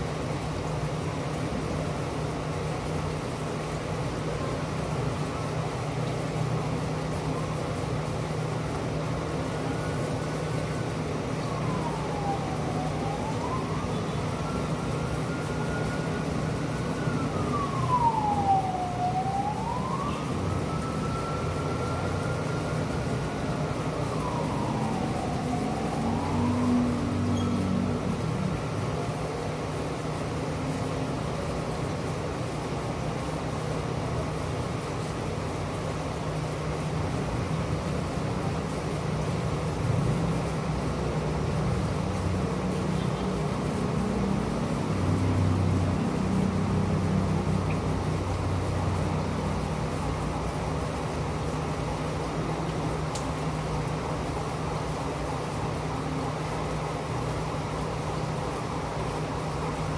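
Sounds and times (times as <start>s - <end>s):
steady rain hiss: 0.0s - 59.9s
emergency vehicle siren wailing: 2.6s - 34.4s, 35.8s - 59.9s.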